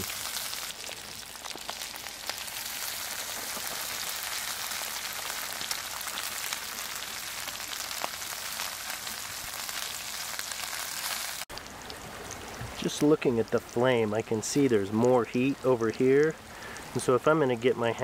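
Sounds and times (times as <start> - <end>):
hash browns sizzling in a pan: 0.0 - 17.2.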